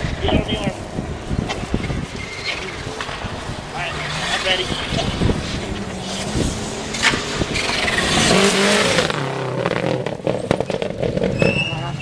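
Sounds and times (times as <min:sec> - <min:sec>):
car engine revving: 0:00.0 - 0:12.0
gravel spray and tyre noise: 0:00.0 - 0:12.0.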